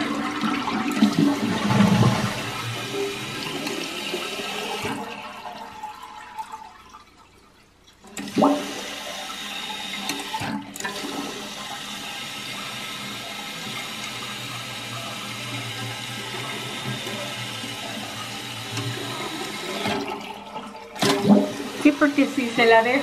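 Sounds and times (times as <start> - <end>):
water rushing in toilet tank: 0.0 - 23.0.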